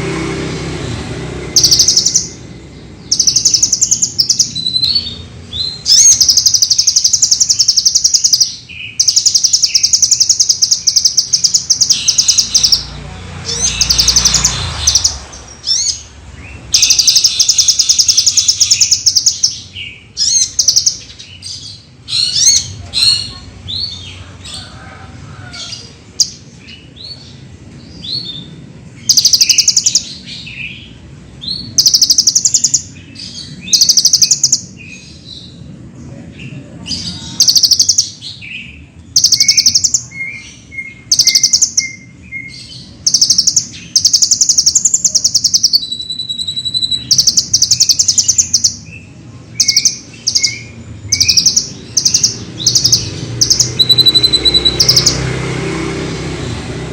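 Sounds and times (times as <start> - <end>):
bird singing high trills: 1.4 - 24.2, 28.0 - 35.6, 37.0 - 49.0, 49.6 - 55.4
high bird chirps: 1.4 - 24.7, 25.5 - 35.6, 37.0 - 55.4.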